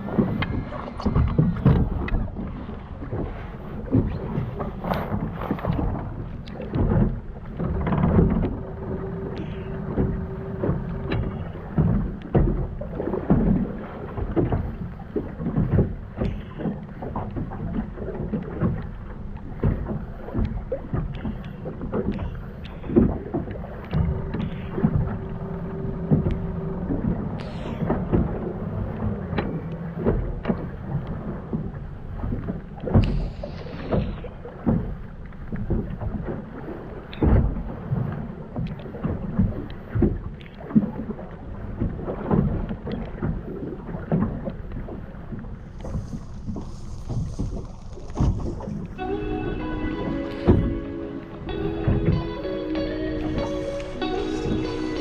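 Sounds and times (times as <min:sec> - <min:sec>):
boat engine rumble: 0:00.0 - 0:55.0.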